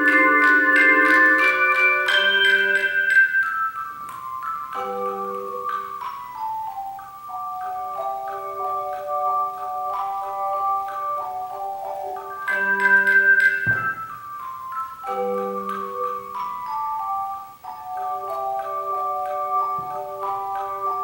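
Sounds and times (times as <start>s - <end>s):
tone chimes playing melody: 0.0s - 21.0s.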